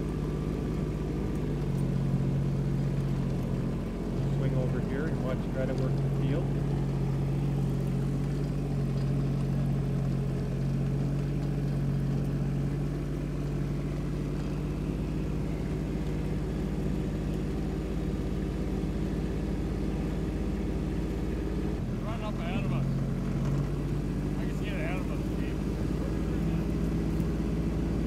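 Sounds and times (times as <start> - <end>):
small vehicle motor humming: 0.0 - 28.0.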